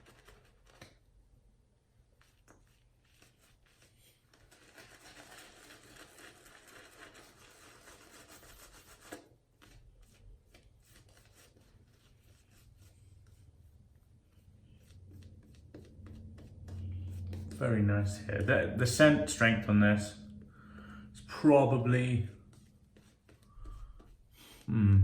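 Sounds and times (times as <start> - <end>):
shaving brush swishing lather: 2.2 - 20.3, 21.2 - 24.6.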